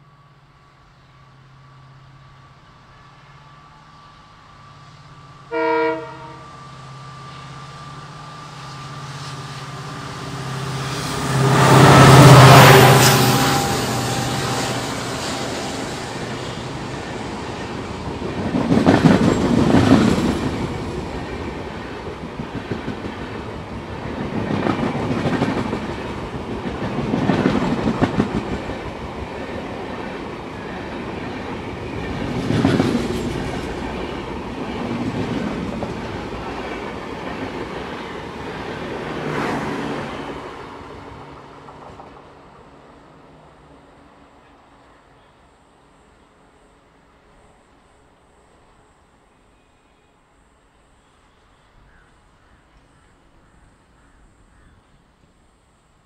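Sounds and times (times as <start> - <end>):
train rushing past: 0.0 - 49.5.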